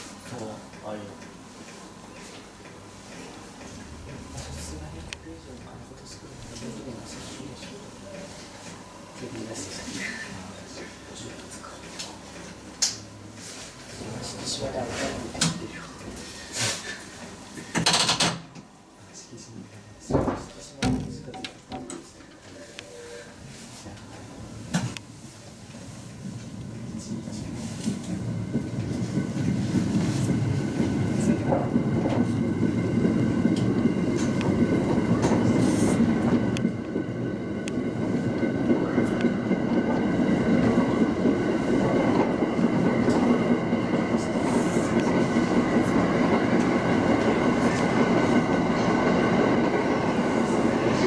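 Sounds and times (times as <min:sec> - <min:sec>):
train rolling on rails: 0:00.0 - 0:18.1, 0:22.3 - 0:51.0.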